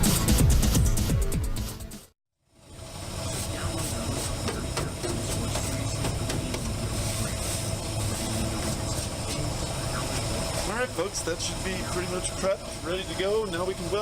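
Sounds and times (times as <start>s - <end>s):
small gasoline engine running: 2.4s - 14.0s.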